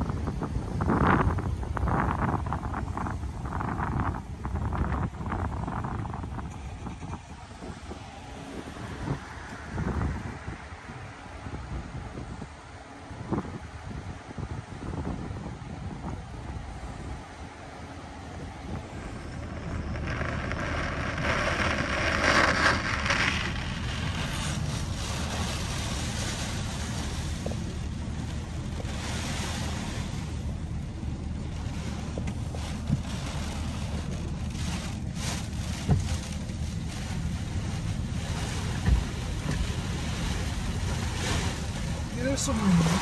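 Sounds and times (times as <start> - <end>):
rain pelting vehicle windows: 0.0 - 14.6, 15.2 - 43.0.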